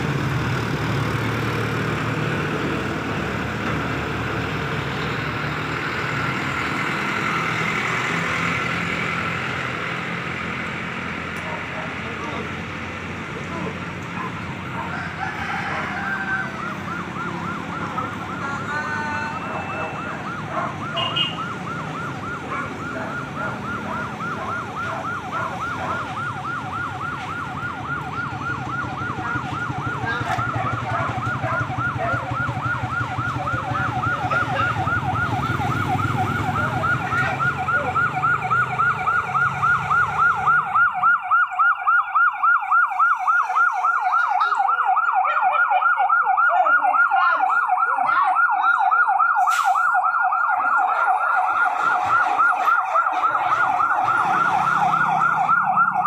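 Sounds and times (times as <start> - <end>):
sirens yelping: 0.0 - 56.0
vehicle engines rumbling: 0.0 - 56.0.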